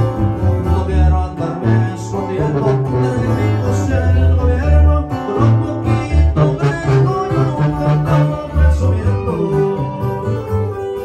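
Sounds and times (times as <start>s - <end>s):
bass line: 0.0s - 11.0s
plucked acoustic guitars: 0.0s - 11.0s.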